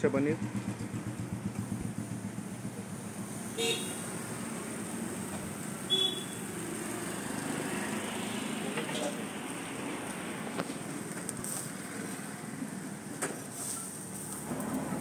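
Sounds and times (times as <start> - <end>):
street background noise: 0.0 - 15.0.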